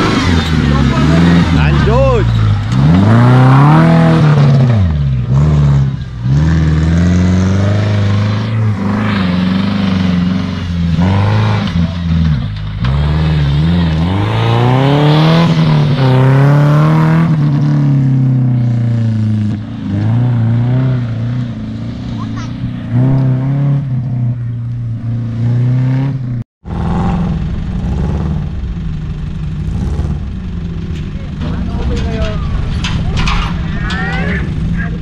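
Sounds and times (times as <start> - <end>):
off-road engine revving hard: 0.0 - 35.0.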